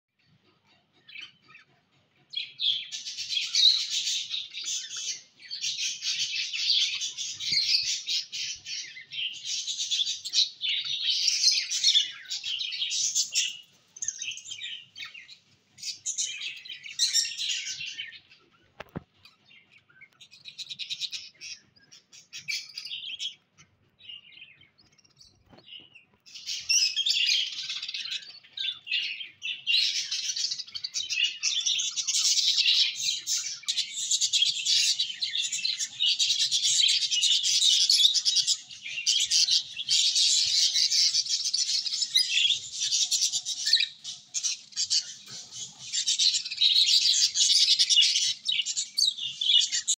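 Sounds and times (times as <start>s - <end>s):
budgerigars chirping: 0.6s - 49.9s.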